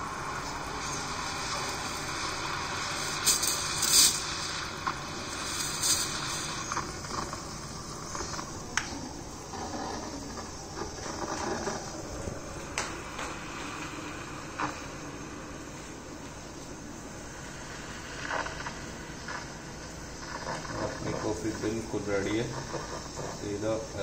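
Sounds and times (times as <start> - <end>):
espresso maker hissing: 0.0 - 24.0
steam spurts: 0.0 - 24.0.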